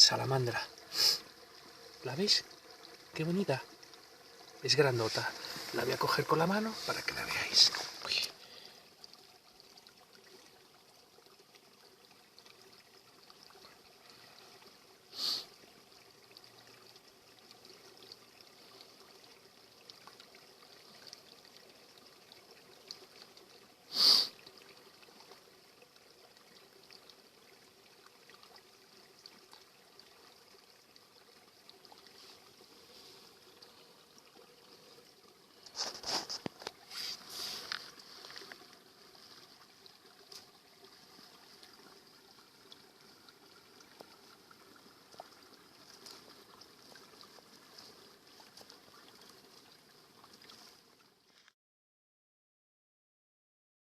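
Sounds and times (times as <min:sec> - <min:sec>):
trickle of flowing water: 0:00.0 - 0:51.6.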